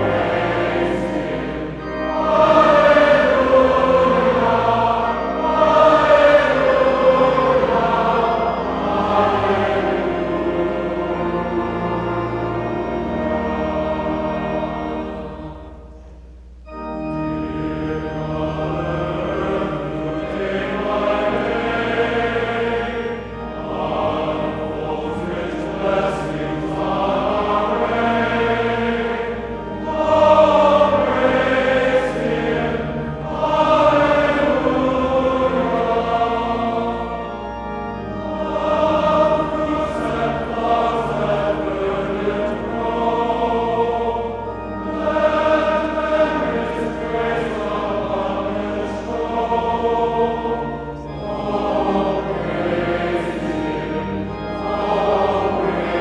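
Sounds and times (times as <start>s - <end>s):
choir singing: 0.0s - 56.0s
pipe organ: 0.0s - 56.0s.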